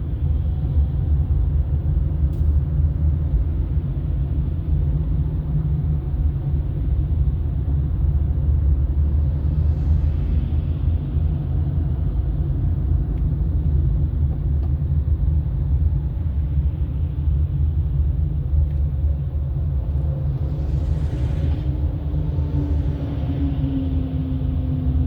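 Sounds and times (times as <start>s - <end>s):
car driving road and wind noise: 0.0s - 25.0s.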